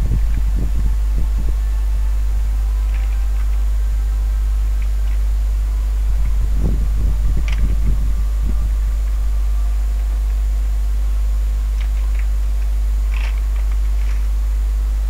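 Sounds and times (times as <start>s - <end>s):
low electrical hum: 0.0s - 15.0s
soft low thumps: 0.0s - 15.0s.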